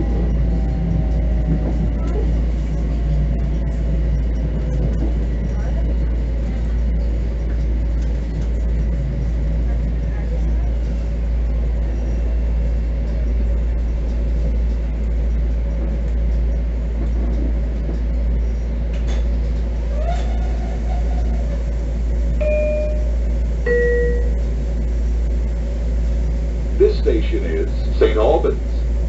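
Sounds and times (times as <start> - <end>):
train interior rumble and hum: 0.0 - 29.0.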